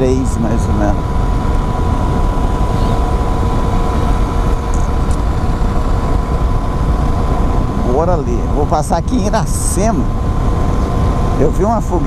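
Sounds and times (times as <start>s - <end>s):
motorcycle engine drone: 0.0s - 12.0s
wind rumble on microphone: 0.0s - 12.0s.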